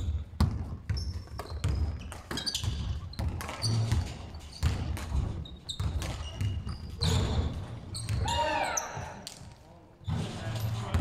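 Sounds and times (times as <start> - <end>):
basketball bouncing on wooden floor: 0.0 - 9.5
trainers squeaking on court: 0.9 - 11.0.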